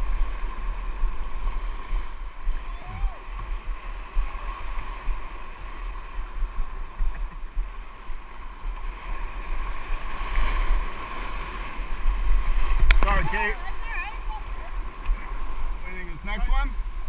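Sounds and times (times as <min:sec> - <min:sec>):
sea water washing around kayak: 0:00.0 - 0:17.0
wind rumbling on microphone: 0:00.0 - 0:17.0.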